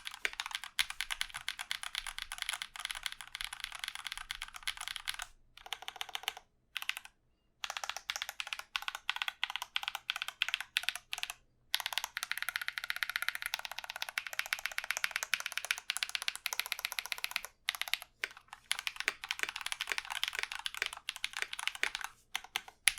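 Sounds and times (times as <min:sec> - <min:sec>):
mechanical keyboard typing: 0:00.0 - 0:22.9.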